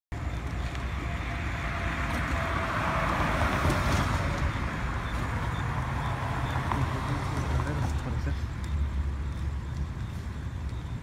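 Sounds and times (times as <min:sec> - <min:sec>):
car passing on road: 0:00.2 - 0:11.0.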